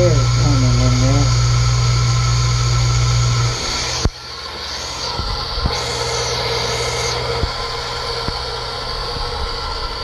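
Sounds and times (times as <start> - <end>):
water hissing through pipes: 0.0 - 10.0
water pump humming: 0.0 - 10.0.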